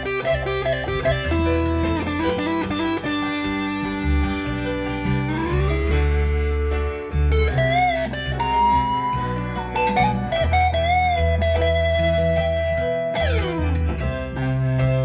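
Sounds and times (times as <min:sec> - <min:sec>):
bass notes: 0:00.0 - 0:15.0
electric guitar lead with bends: 0:00.0 - 0:15.0.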